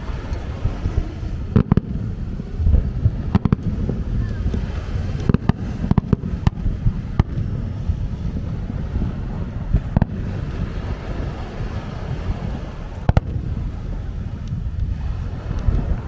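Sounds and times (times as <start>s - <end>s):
fireworks bangs: 0.0s - 15.1s
wind rumble on microphone: 0.0s - 16.0s.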